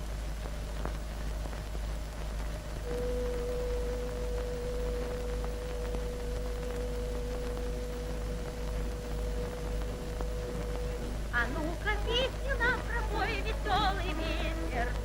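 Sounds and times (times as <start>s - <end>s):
film soundtrack hiss and hum: 0.0s - 15.0s
steady tone: 2.9s - 15.0s.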